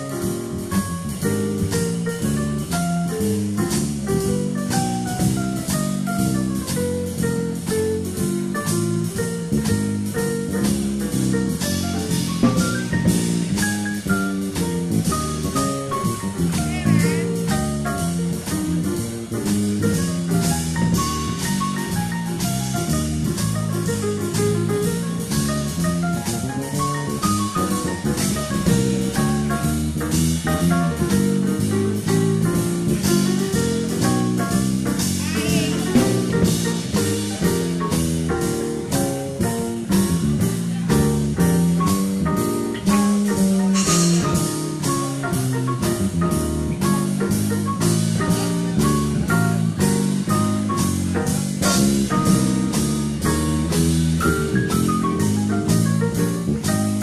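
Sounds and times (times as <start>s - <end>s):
big band playing swing jazz: 0.0s - 57.0s
drum kit steady beat: 0.0s - 57.0s.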